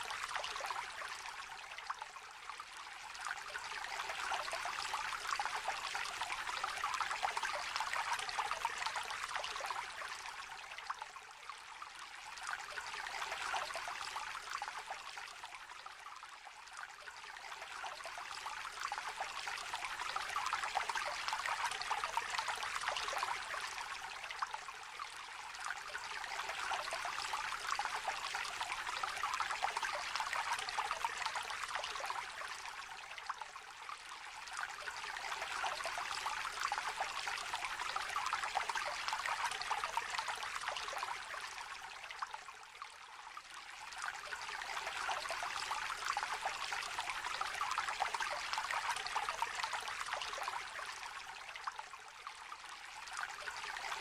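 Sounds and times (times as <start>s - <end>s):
shallow river babbling over stones: 0.0s - 54.0s.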